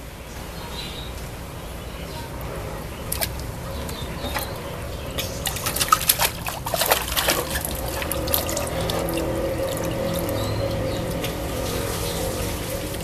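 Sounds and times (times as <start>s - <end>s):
water splashing: 2.4s - 13.0s
water trickling and dripping: 2.4s - 13.0s.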